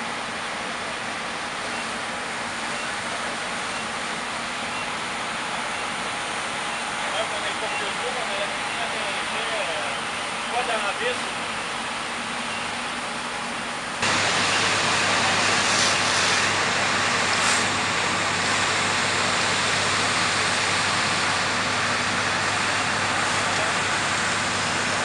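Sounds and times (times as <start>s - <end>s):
fire engine running: 0.0s - 25.0s.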